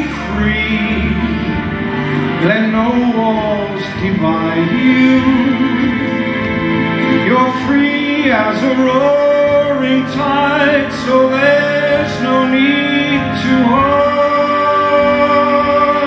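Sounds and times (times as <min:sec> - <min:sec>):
man singing long notes: 0:00.0 - 0:16.0
orchestral backing music: 0:00.0 - 0:16.0.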